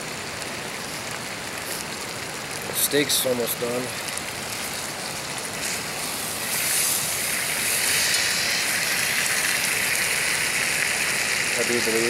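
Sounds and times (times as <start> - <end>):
steak sizzling in a skillet: 0.0 - 12.0.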